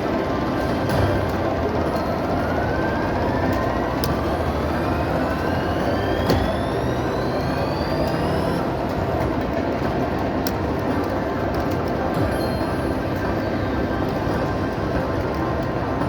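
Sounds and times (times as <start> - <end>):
slot machine rising pitch sweep: 0.0 - 16.0.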